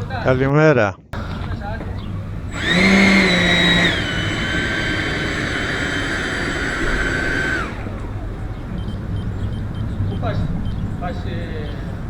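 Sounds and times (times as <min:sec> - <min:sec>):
electric ducted fan whining: 0:00.0 - 0:00.5, 0:01.2 - 0:12.0.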